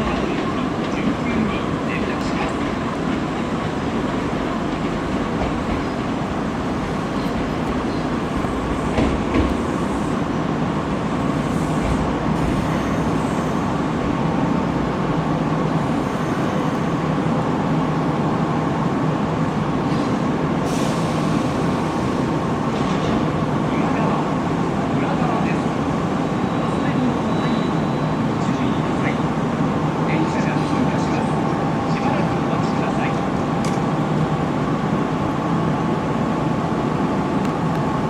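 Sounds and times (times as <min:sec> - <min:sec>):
electric train rumble: 0:00.0 - 0:38.0.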